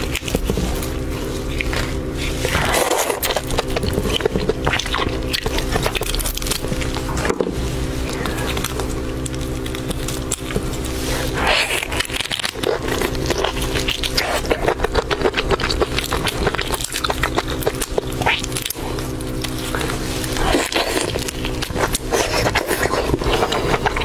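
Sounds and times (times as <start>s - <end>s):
biting into meat: 0.0s - 24.0s
prawn shell cracking: 0.0s - 24.0s
wet squelching of flesh: 0.0s - 24.0s.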